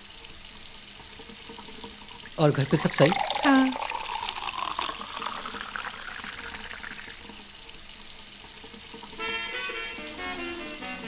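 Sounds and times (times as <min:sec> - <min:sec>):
tap water running into sink: 0:00.0 - 0:09.4.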